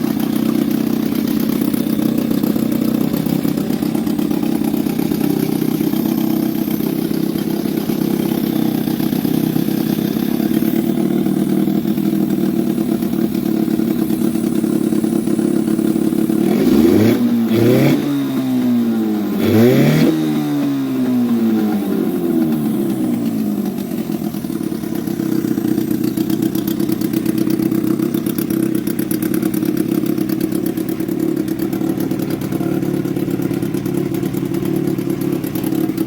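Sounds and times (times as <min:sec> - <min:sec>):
outboard motor revving: 0:00.0 - 0:12.7, 0:13.7 - 0:31.0
outboard motor running: 0:00.0 - 0:36.0.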